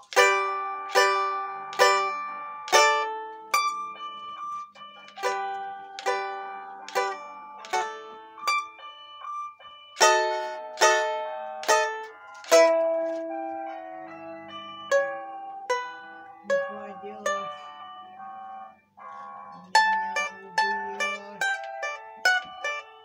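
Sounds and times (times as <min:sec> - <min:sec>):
plucked domra notes: 0:00.0 - 0:23.0.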